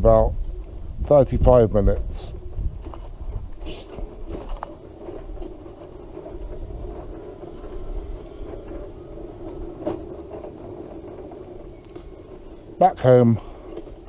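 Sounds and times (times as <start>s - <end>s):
wheelchair rolling hum and rumble: 0.0s - 14.0s.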